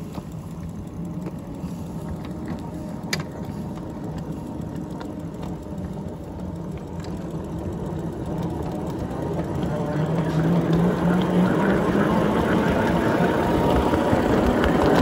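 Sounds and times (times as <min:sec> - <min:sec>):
miniature locomotive rumbling: 0:00.0 - 0:15.0
wheels clicking on rails: 0:00.0 - 0:15.0.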